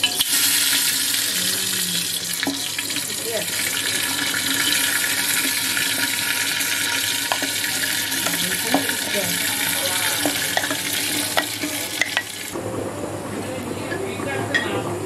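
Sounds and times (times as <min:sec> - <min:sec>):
meat sizzling: 0:00.0 - 0:12.6.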